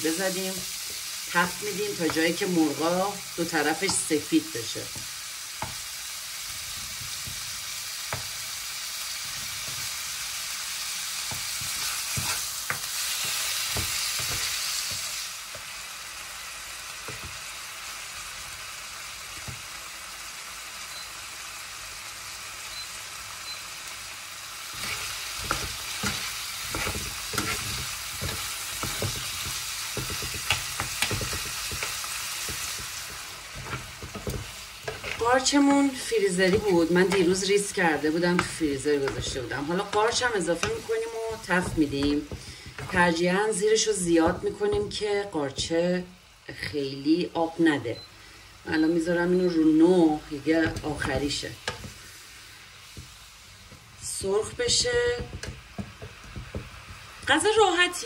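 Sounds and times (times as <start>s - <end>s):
chicken sizzling in oil: 0.0s - 58.0s.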